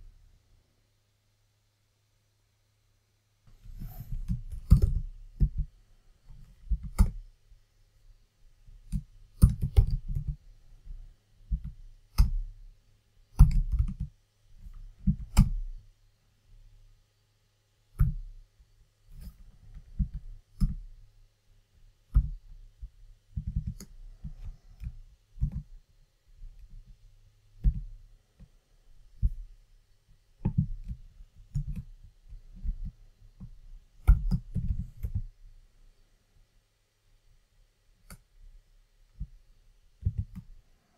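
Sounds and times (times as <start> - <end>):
faint low hum: 0.0 - 40.9.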